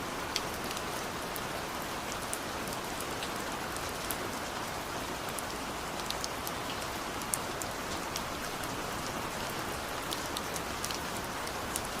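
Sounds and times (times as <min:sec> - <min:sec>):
raindrops dripping and pattering: 0:00.0 - 0:12.0
steady rain hiss: 0:00.0 - 0:12.0.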